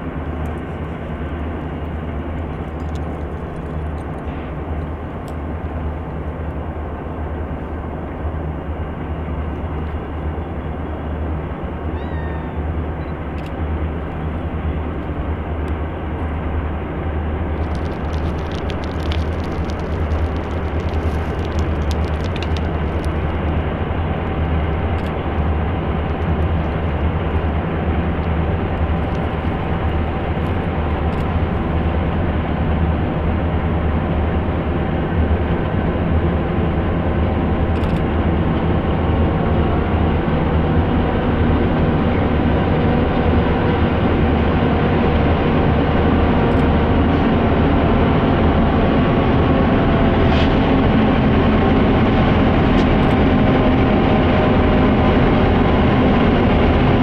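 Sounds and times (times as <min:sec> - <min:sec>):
diesel locomotives droning: 0:00.0 - 0:57.0.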